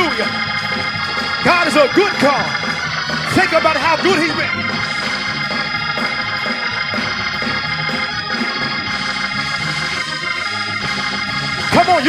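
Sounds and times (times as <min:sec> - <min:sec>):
organ holding sustained chords: 0:00.0 - 0:12.0.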